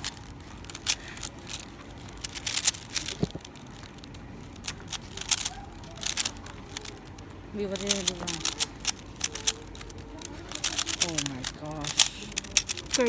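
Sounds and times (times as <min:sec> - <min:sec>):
plastic puzzle cube clicking: 0:00.0 - 0:13.0.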